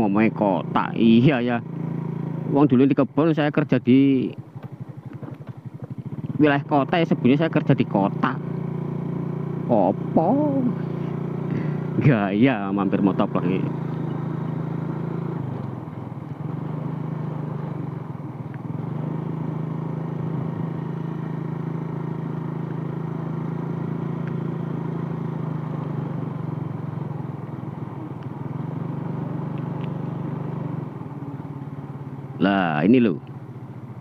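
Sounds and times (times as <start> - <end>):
road and wind noise: 0.0 - 34.0
small motorcycle engine running: 0.0 - 34.0.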